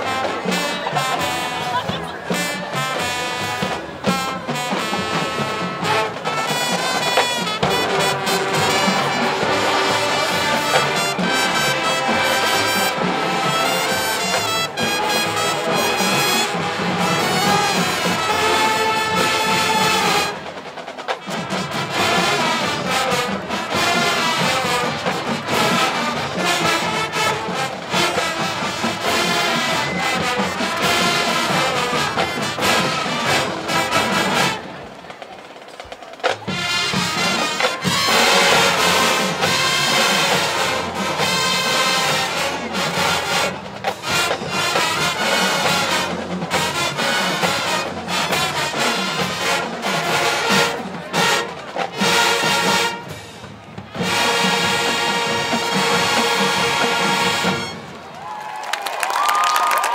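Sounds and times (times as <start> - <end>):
brass section: 0.0 - 35.2, 36.2 - 58.2
marching band playing: 0.0 - 59.9.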